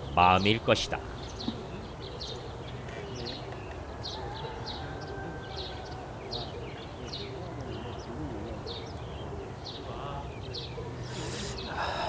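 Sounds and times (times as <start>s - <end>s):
lower wavering bird calls: 0.0s - 12.0s.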